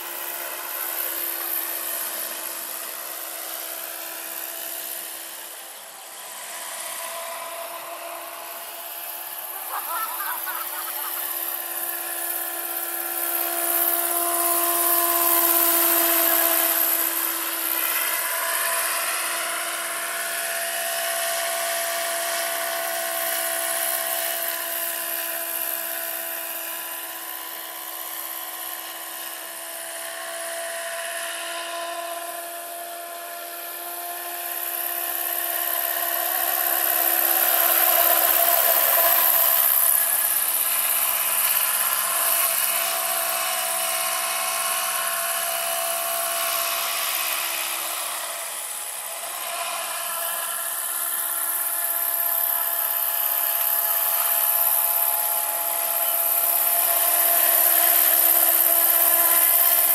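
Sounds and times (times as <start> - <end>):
electric motor whine: 0.0 - 59.9
helicopter rotor noise: 0.0 - 59.9.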